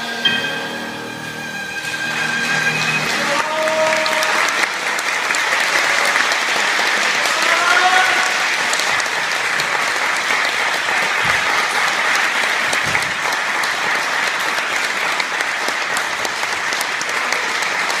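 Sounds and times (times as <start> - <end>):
audience applauding: 1.5 - 18.0.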